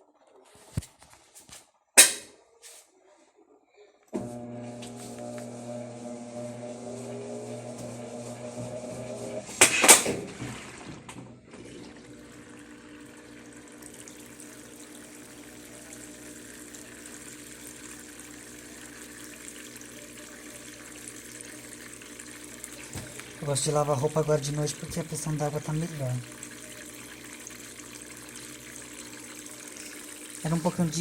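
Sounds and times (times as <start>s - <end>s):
washing machine filling with water: 4.2s - 31.0s.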